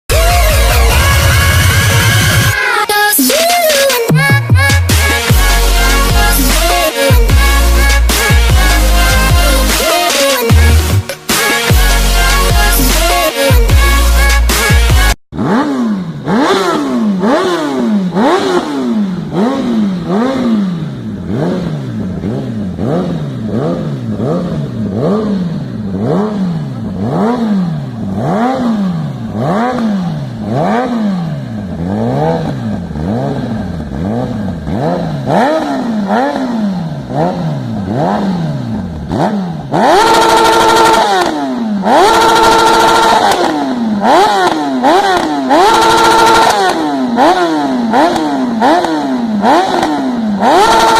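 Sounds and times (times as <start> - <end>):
motorcycle engine revving: 0.1 - 2.6, 3.4 - 50.9.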